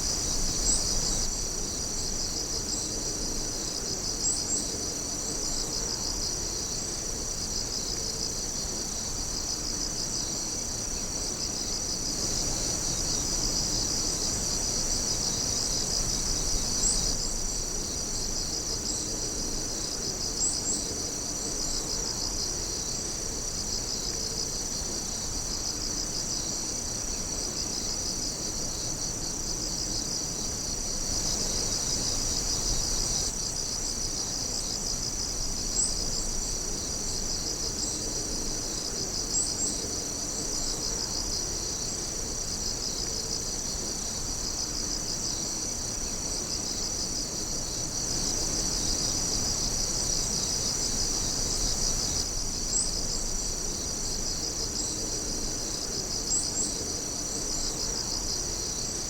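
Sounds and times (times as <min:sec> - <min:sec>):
fast pulsing insect trill: 0:00.0 - 0:59.0
night insects trilling: 0:00.0 - 0:59.0.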